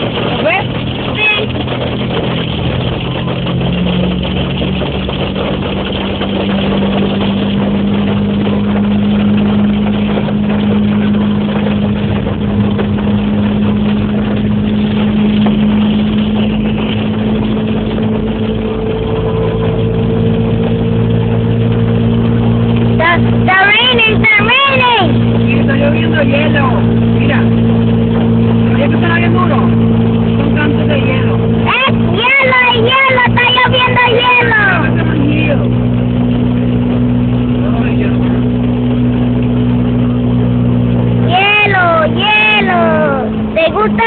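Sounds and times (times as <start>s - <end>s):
hail clattering: 0.0s - 35.7s
low motor hum: 0.0s - 44.0s.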